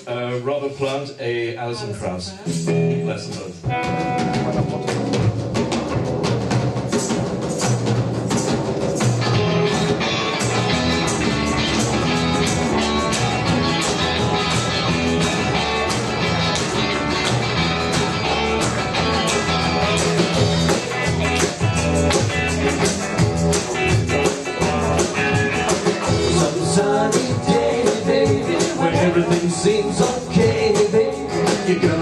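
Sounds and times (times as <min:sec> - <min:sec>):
live rock band playing: 0:01.7 - 0:32.0.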